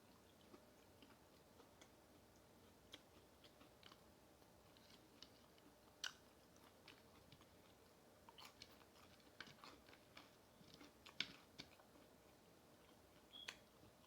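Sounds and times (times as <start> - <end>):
chewing crispy chicken: 0.0 - 14.0.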